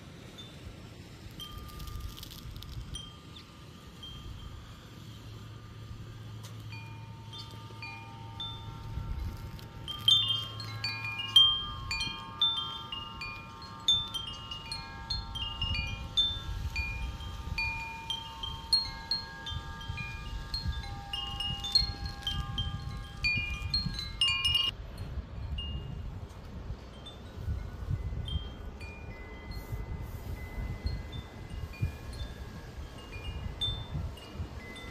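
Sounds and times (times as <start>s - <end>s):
low wind rumble: 0.0s - 34.9s
wind chimes ringing: 0.3s - 34.9s.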